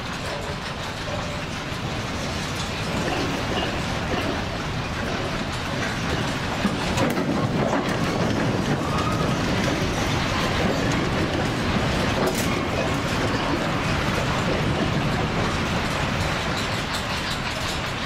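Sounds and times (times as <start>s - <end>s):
train cars rumbling and rattling: 0.0s - 18.0s.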